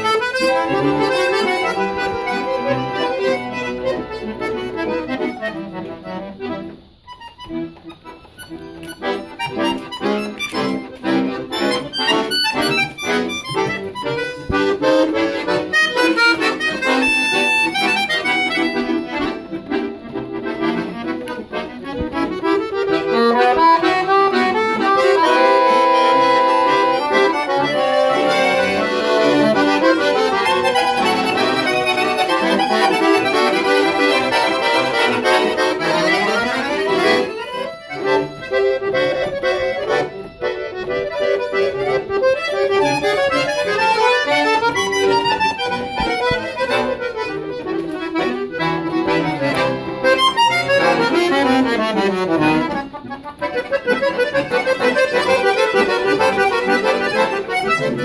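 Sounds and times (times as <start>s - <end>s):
accordions playing: 0.0s - 58.0s.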